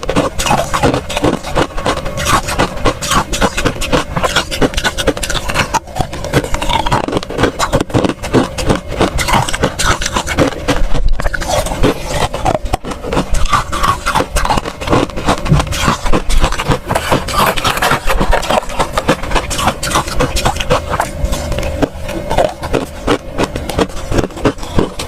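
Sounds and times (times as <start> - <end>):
frost crunching and scraping: 0.0 - 25.0.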